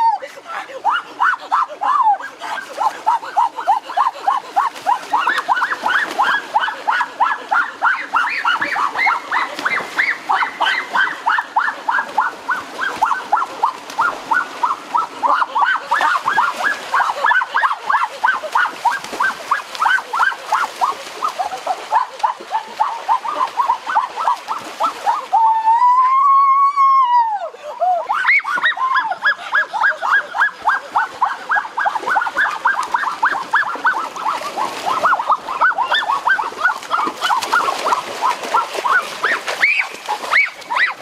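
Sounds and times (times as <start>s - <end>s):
water splashing: 0.0s - 26.7s, 27.8s - 41.0s.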